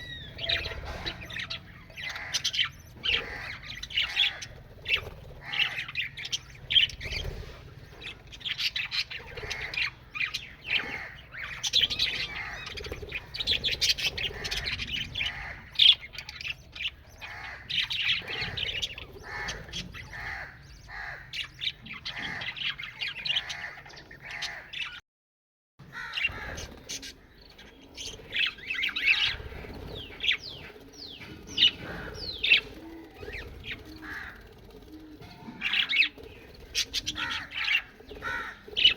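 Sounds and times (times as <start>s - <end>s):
parrots chirping and squawking: 0.0s - 25.0s, 25.8s - 38.9s.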